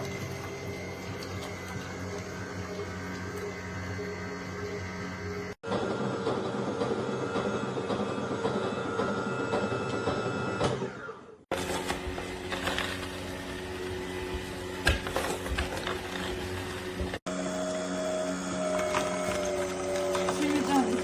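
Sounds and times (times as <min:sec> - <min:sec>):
juicer motor hum: 0:00.0 - 0:21.0.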